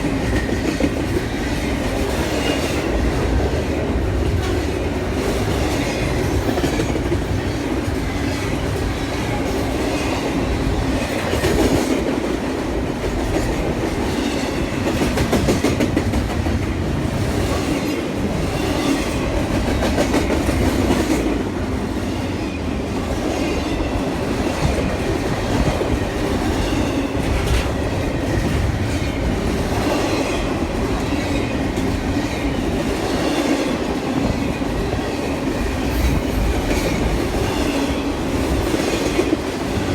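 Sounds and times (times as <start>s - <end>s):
train wheels clicking on rails: 0.0s - 39.9s.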